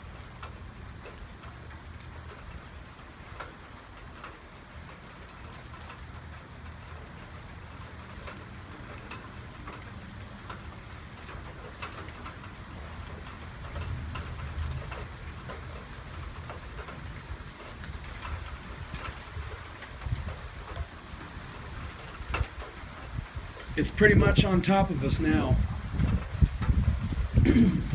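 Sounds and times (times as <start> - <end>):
heavy rain falling: 0.0 - 27.9
raindrops ticking on surface: 0.0 - 27.9.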